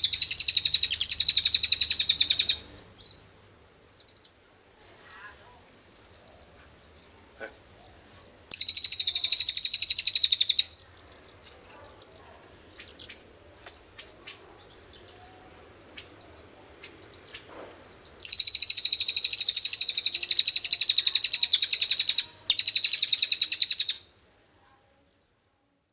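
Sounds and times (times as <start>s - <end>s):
bird trilling song: 0.0s - 24.1s
faint chirps and clicks: 0.0s - 25.9s.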